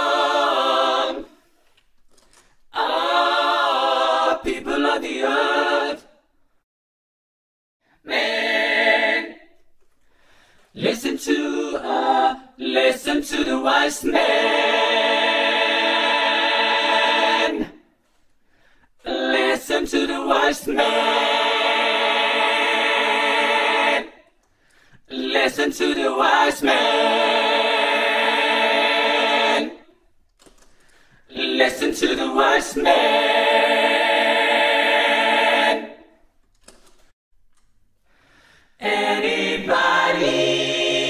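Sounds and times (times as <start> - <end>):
a cappella vocal harmonies: 0.0 - 1.8, 2.4 - 6.4, 7.8 - 36.4, 38.0 - 41.0.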